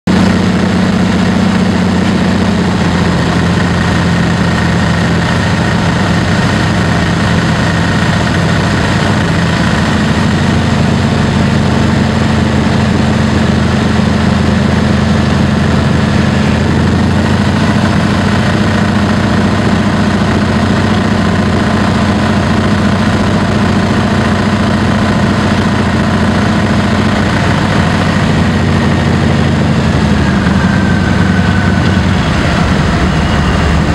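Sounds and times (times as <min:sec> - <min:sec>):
small plane engine and propeller: 0:00.0 - 0:33.9.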